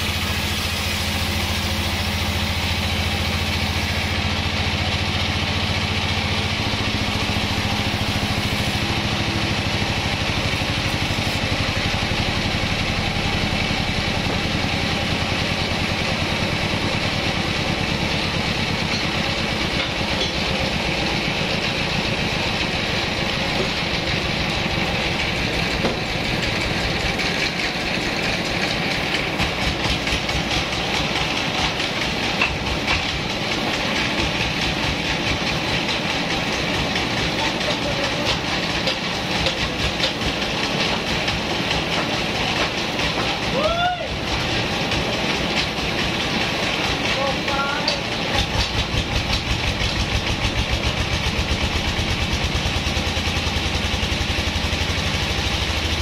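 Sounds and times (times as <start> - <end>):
bandsaw mill drone: 0.0 - 56.0.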